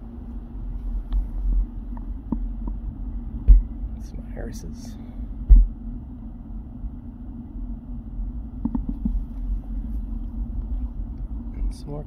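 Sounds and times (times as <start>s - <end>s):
faint constant hum: 0.0s - 12.0s
low background rumble: 0.0s - 12.0s.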